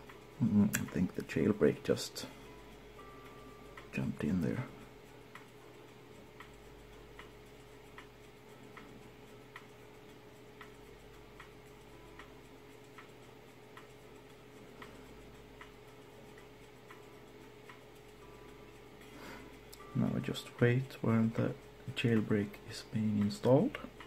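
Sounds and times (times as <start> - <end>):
faint regular ticking: 0.0 - 24.0
steady low hum: 0.0 - 24.0.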